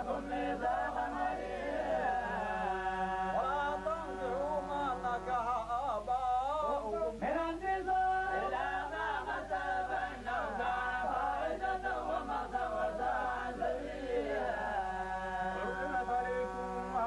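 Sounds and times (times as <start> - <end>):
men chanting recitation: 0.0 - 17.0.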